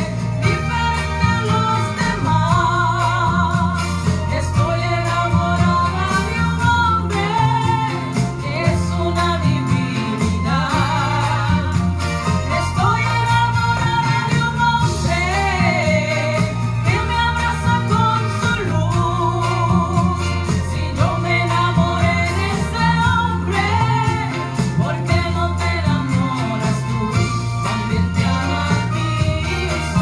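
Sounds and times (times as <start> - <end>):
amplified band: 0.0 - 30.0
voices singing praise song: 0.0 - 30.0.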